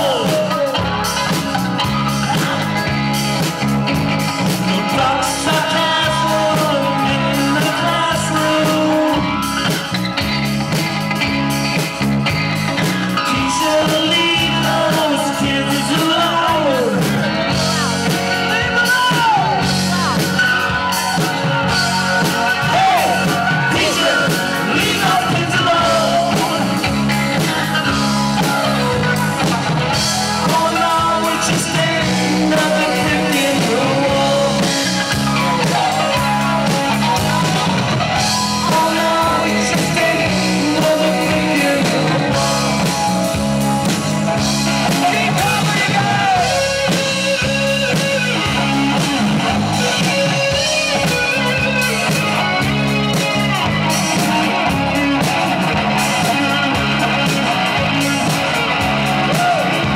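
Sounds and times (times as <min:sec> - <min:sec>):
person singing: 0:00.0 - 0:10.2, 0:12.7 - 0:59.9
rock band playing: 0:00.0 - 0:59.9.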